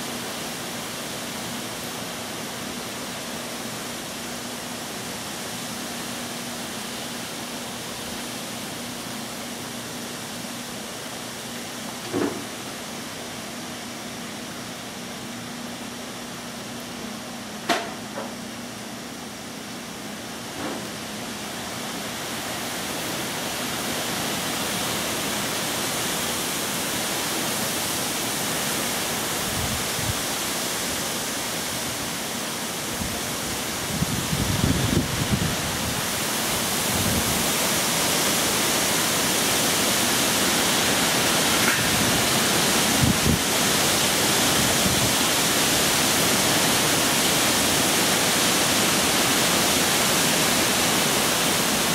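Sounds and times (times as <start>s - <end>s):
heavy rain and wind: 0.0s - 51.9s.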